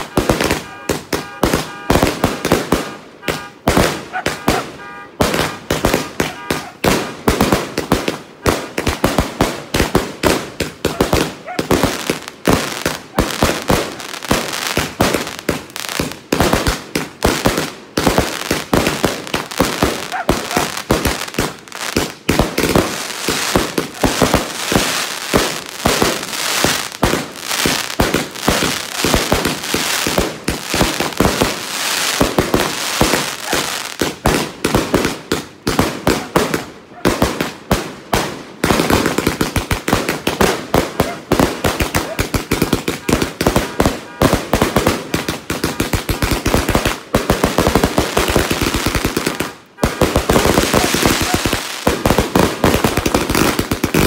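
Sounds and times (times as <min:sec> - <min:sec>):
fireworks bursting: 0:00.0 - 0:54.0
fireworks crackle: 0:00.0 - 0:54.0.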